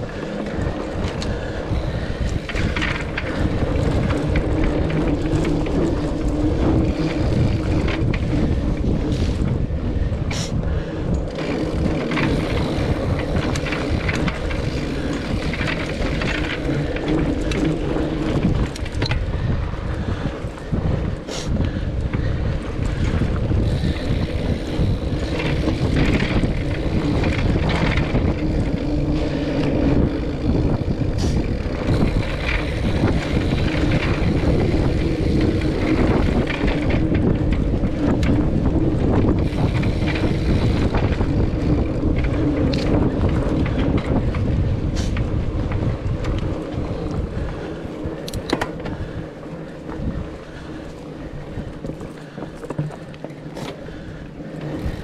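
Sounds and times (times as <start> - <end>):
bike knocks and rattles: 0.0 - 55.0
bike tyres rumbling on dirt: 0.0 - 55.0
wind on camera microphone: 0.0 - 55.0.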